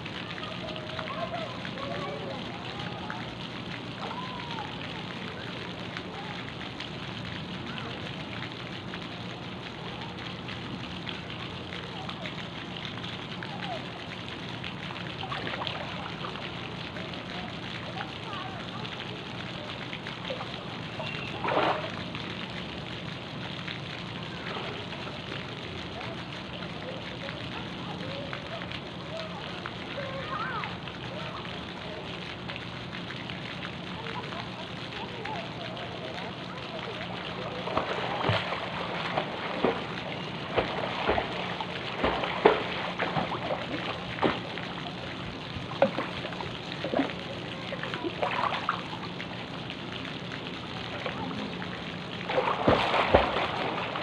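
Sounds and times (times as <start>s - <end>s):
faint distant voices: 0.0s - 54.0s
pool water lapping and sloshing: 0.0s - 54.0s.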